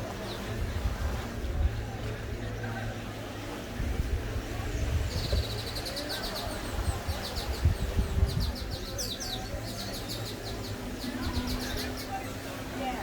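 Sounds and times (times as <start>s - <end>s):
wind on microphone: 0.0s - 2.9s, 3.6s - 12.0s
surf: 0.0s - 13.0s.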